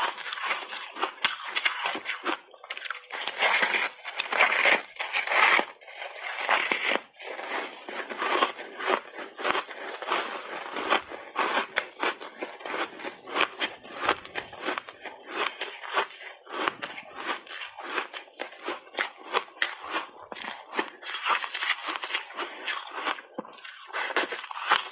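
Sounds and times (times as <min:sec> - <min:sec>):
ice being chewed: 0:00.0 - 0:24.9.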